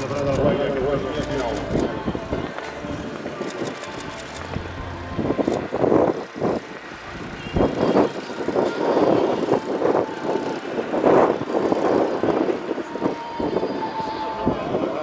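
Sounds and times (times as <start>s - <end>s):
propeller aircraft engines overhead: 0.0s - 15.0s.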